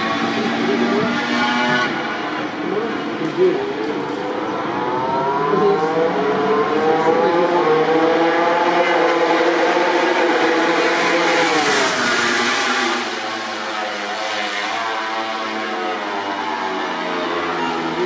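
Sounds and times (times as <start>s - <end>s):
racing motorcycle passing: 0.0s - 18.0s.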